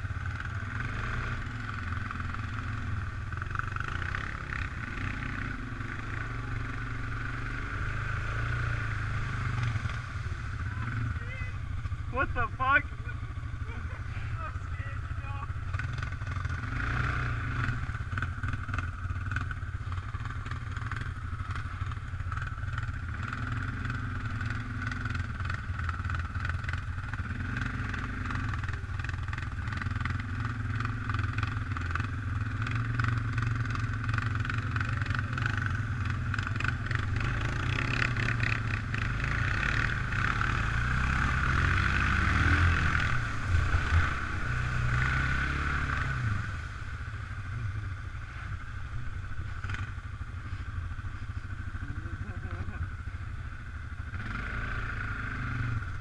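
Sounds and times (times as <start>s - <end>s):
quad bike engines running: 0.0s - 56.0s.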